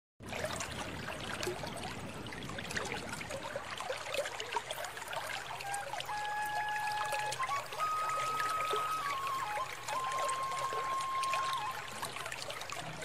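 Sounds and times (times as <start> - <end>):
stream trickling and gurgling: 0.2 - 13.0.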